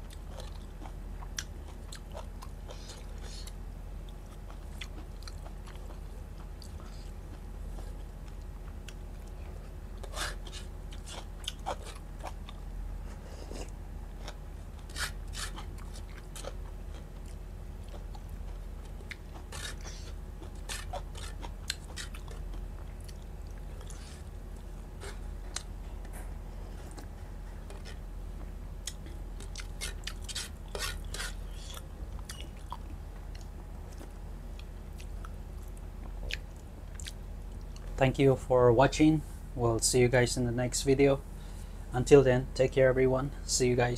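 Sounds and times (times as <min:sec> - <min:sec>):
person chewing food: 0:00.0 - 0:38.0
steady low hum: 0:00.0 - 0:43.9.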